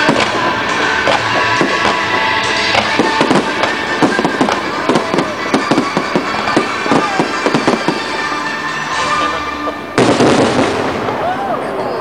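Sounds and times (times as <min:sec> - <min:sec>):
fireworks bangs and crackling: 0:00.0 - 0:12.0
music playing: 0:00.0 - 0:12.0.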